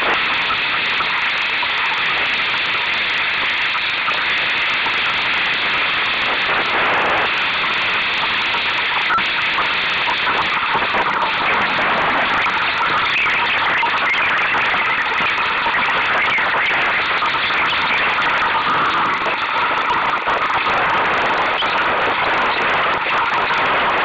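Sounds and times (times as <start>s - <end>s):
water rushing around boat: 0.0s - 24.0s
wind: 0.0s - 24.0s.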